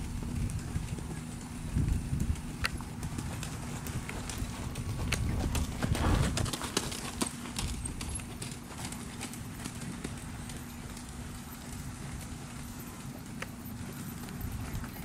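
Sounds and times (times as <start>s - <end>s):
horse hooves on sand: 0.0s - 15.0s.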